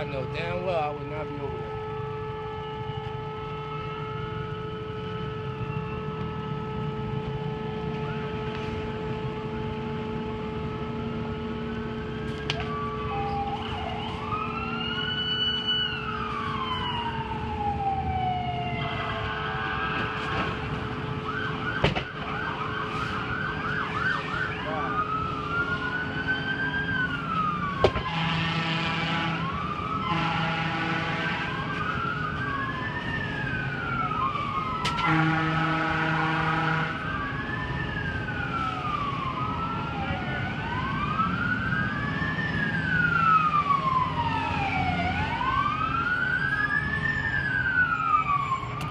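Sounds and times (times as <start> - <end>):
emergency vehicle sirens wailing: 0.0 - 48.9.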